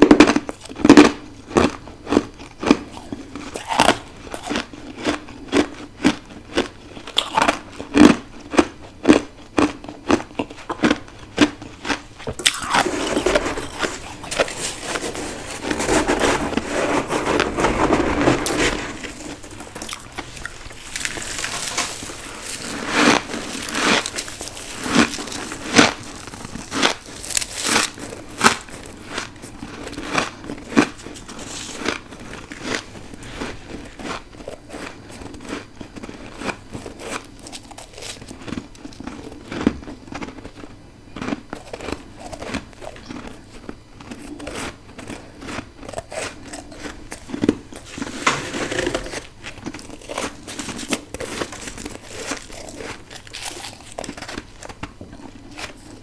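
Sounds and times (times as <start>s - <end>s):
person crunching frost: 0.2s - 39.5s, 44.0s - 56.0s.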